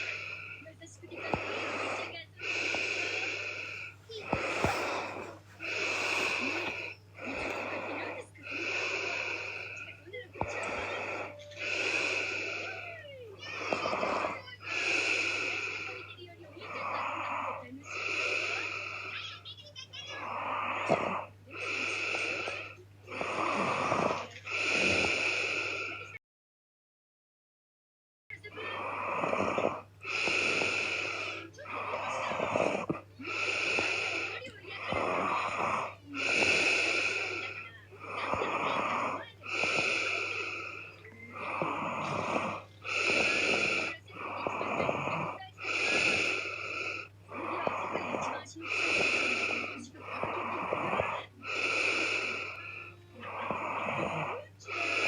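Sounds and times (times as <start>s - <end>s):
woman snoring: 0.0s - 19.4s, 20.0s - 26.2s, 28.5s - 55.0s.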